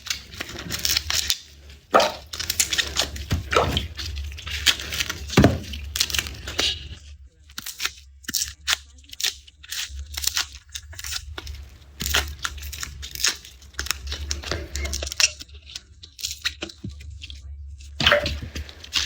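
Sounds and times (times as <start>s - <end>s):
garlic skins crackling: 0.0s - 19.0s.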